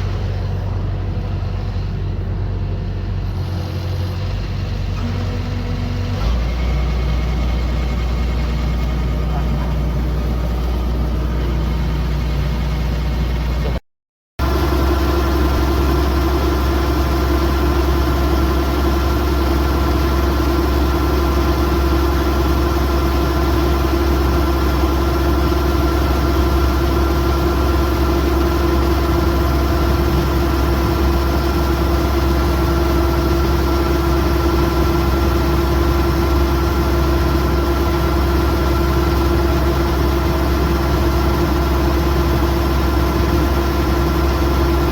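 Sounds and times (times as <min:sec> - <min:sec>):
combine harvester engine running: 0:00.0 - 0:13.8, 0:14.4 - 0:44.9.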